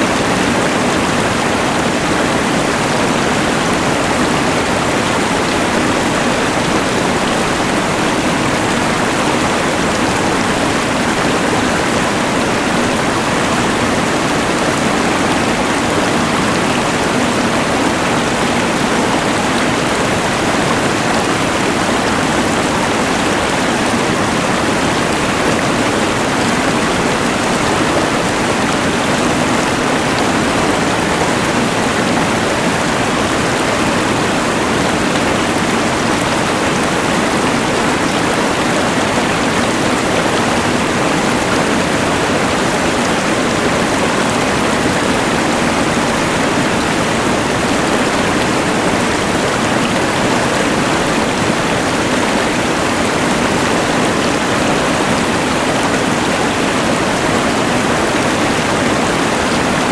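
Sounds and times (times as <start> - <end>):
rushing river: 0.0 - 59.9.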